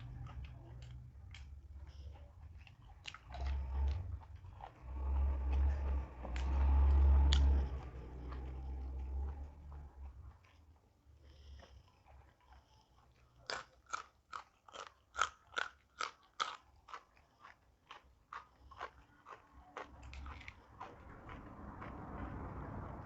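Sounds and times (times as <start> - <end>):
chewing crunchy raw food: 0.0 - 23.0.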